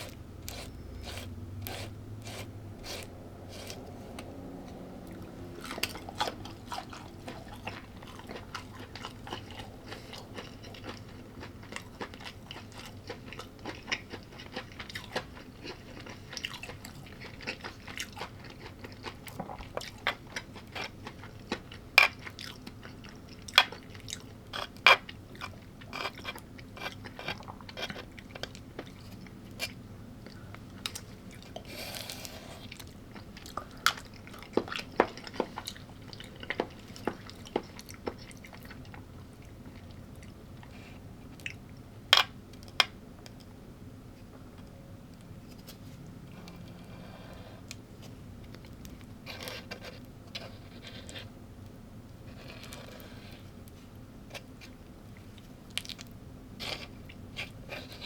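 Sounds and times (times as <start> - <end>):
chewing and crunching food: 0.0 - 43.5, 44.6 - 58.0.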